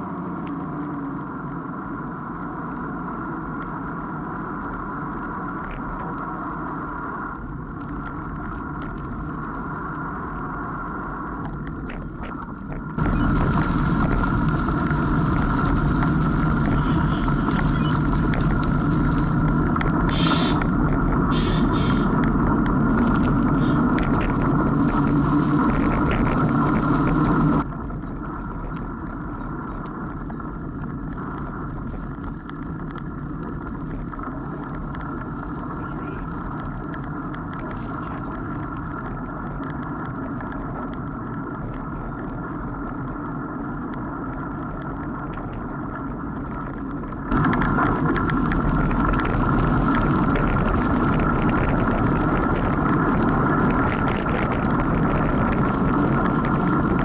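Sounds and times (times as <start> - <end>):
bicycle rolling on gravel: 0.0 - 57.0
wind noise: 1.8 - 57.0.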